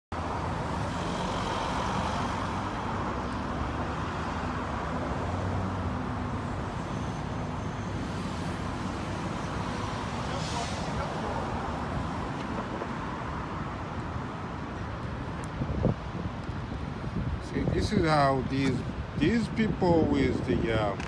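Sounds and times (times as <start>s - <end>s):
street traffic rumble: 0.1s - 21.0s.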